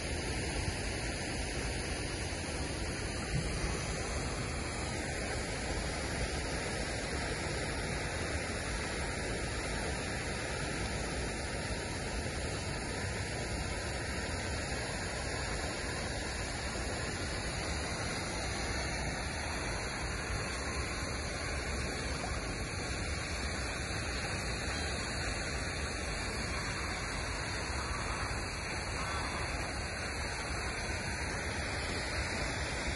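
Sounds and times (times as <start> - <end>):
fountain water splashing: 0.0 - 32.9.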